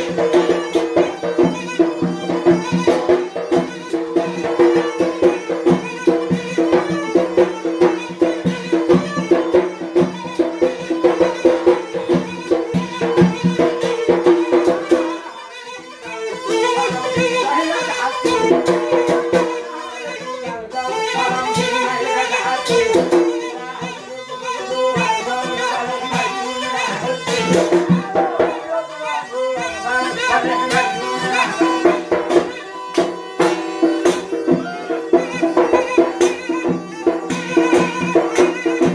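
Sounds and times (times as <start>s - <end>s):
drum beats: 0.0s - 38.9s
reed pipe playing long notes: 0.0s - 38.9s.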